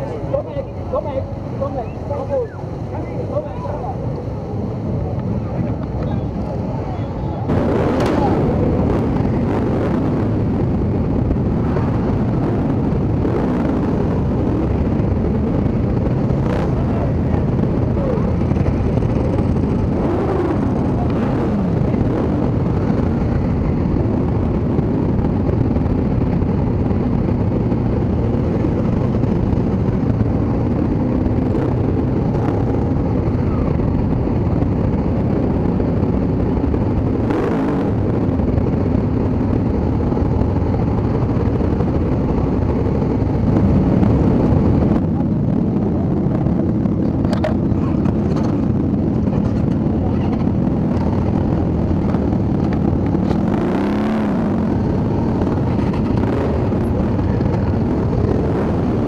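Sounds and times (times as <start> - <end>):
motorcycle engines rumbling: 0.0 - 59.0.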